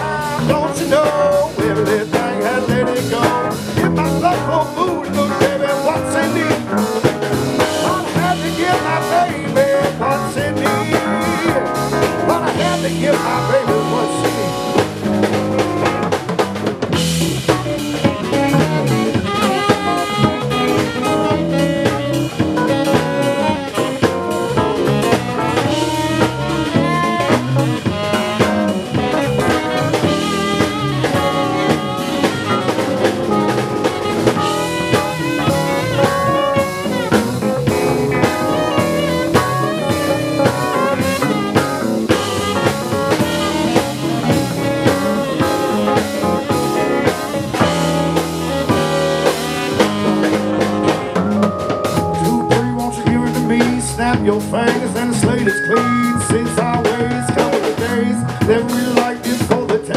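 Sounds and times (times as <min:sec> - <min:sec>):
drum kit beat: 0:00.0 - 0:59.9
live band instrumental: 0:00.0 - 0:59.9.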